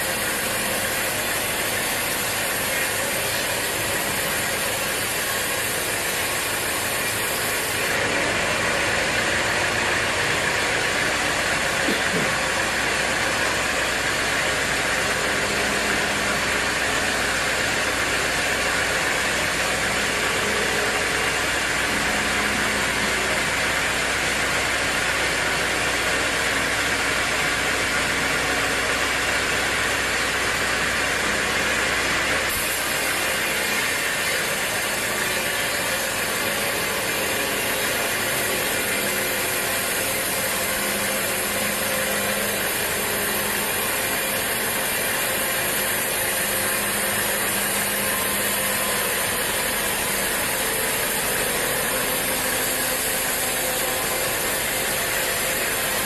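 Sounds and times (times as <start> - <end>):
sawmill machinery clattering: 0.0 - 56.0.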